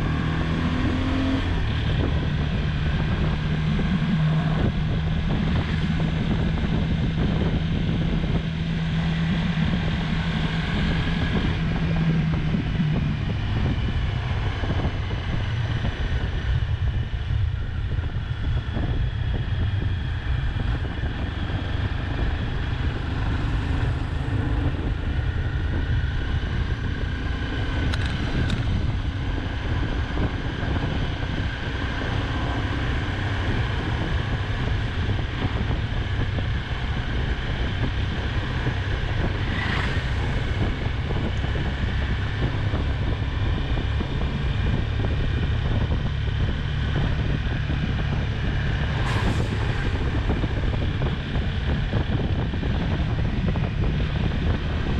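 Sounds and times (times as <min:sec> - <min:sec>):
motorcycle engine: 0:00.0 - 0:54.9
wind buffeting microphone: 0:00.0 - 0:54.9.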